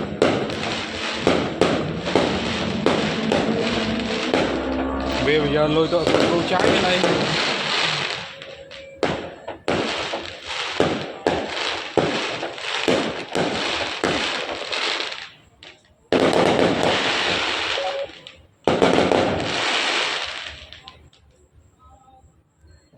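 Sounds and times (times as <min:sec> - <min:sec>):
fireworks bangs: 0:00.0 - 0:21.0
fireworks hissing crackle: 0:00.0 - 0:21.3.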